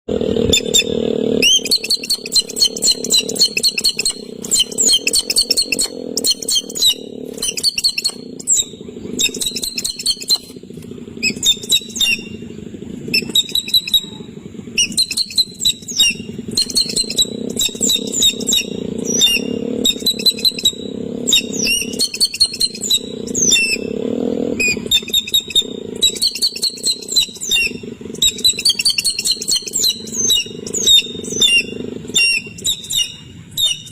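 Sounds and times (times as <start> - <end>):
steady low hum: 0.1 - 33.9
bird chattering calls: 0.4 - 33.9.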